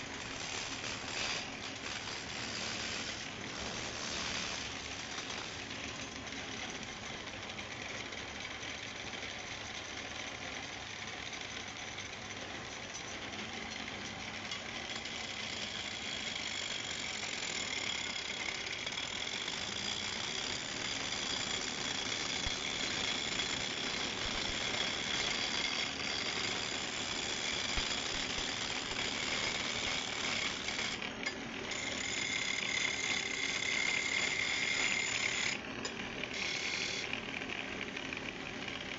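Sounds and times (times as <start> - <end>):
wood lathe running: 0.0 - 7.6, 14.7 - 38.9.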